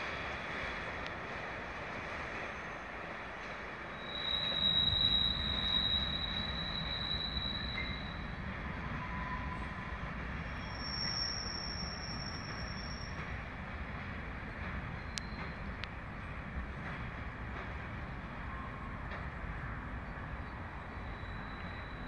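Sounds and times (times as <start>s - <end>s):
low rumble of rolling train: 0.0s - 22.0s
train wheels squealing on rail: 0.0s - 22.0s.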